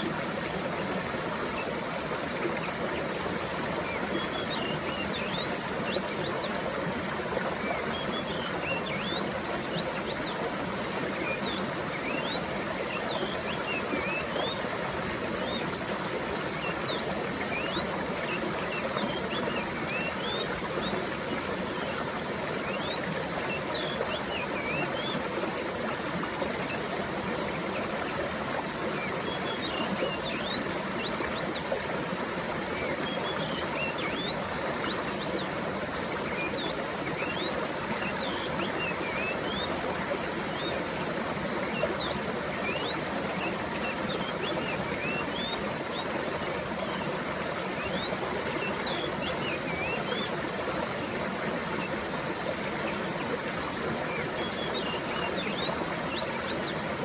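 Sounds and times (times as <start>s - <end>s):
water running like a stream: 0.0s - 57.0s.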